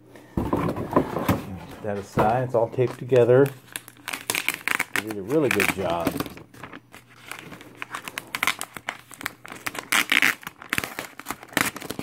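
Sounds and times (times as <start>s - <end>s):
packaging crinkling and rustling: 1.7s - 12.0s.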